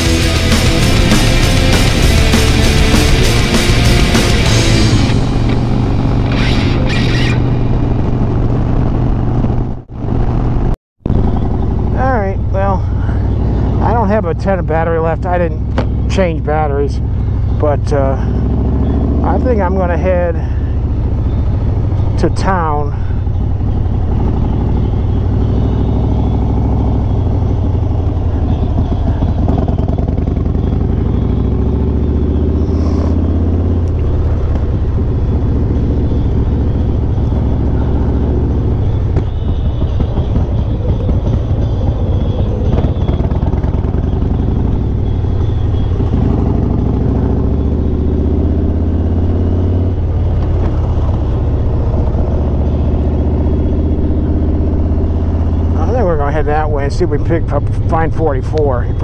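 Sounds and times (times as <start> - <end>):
motorcycle engine revving low: 0.0 - 59.0.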